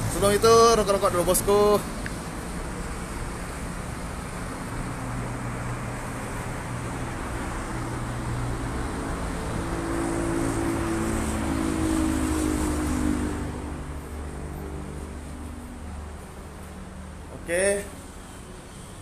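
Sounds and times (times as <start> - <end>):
highway traffic: 0.0 - 19.0.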